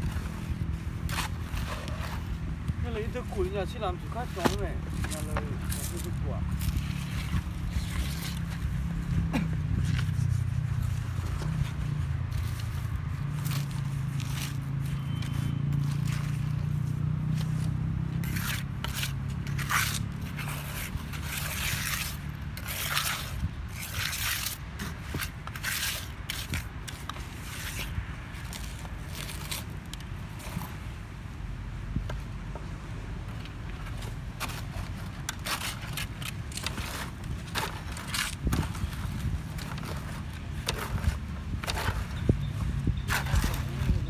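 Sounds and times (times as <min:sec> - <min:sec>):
tool scraping paving: 0:00.0 - 0:31.1, 0:31.9 - 0:44.0.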